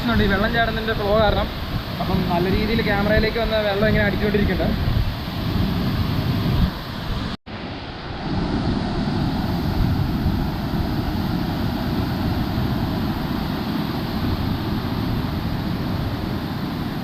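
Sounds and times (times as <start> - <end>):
wind buffeting microphone: 0.0 - 7.4, 8.1 - 17.0
waterfall roaring: 0.0 - 17.0.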